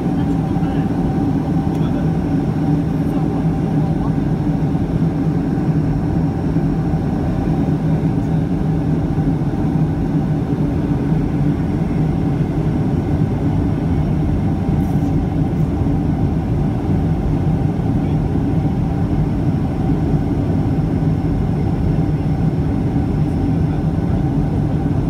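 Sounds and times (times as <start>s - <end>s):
airplane cabin engine drone: 0.0s - 25.0s.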